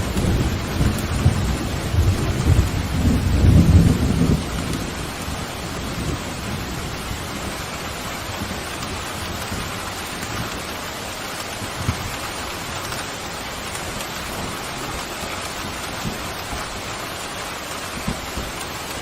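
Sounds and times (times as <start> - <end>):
distant thunder rumble: 0.0 - 19.0
heavy rain pouring: 0.0 - 19.0.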